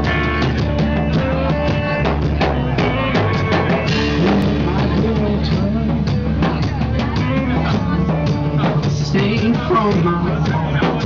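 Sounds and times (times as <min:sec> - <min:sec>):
blues-rock band playing: 0:00.0 - 0:11.0
drum kit beat: 0:00.0 - 0:11.0.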